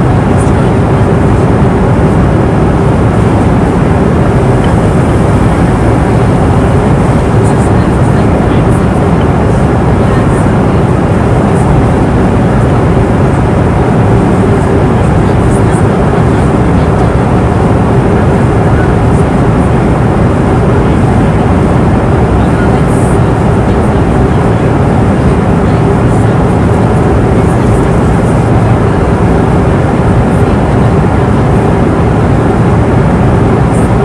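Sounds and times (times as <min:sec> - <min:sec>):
airplane cabin engine and airflow noise: 0:00.0 - 0:34.0
steady hum: 0:00.0 - 0:34.0.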